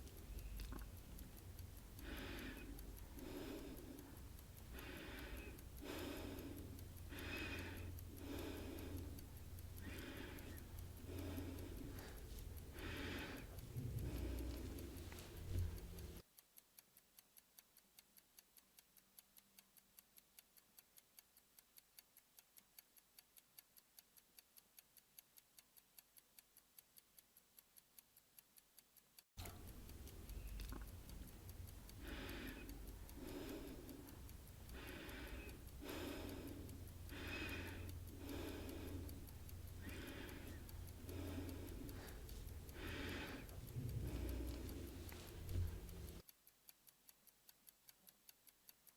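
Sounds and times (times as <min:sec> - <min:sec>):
clock ticking: 0:00.0 - 0:48.9.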